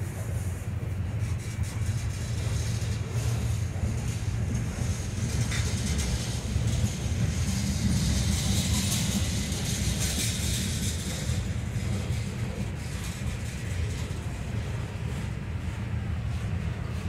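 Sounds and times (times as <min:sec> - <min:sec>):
freight train rumbling past: 0:00.0 - 0:17.0
hiss of wheels: 0:00.0 - 0:17.0.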